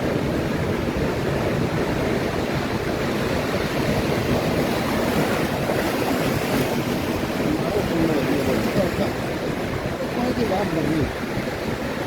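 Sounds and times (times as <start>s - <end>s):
surf on a sandy beach: 0.0s - 12.0s.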